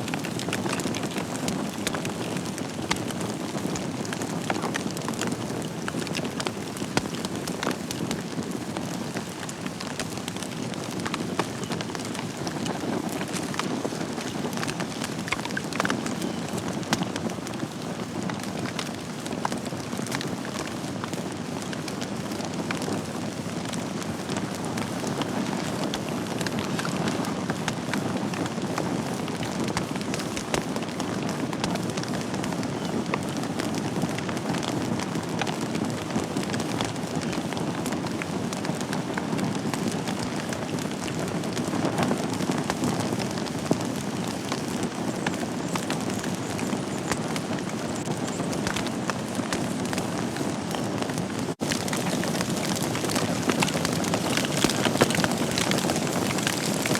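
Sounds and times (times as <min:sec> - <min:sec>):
fire crackles and pops: 0:00.0 - 0:56.9
wood fire burning: 0:00.0 - 0:56.9.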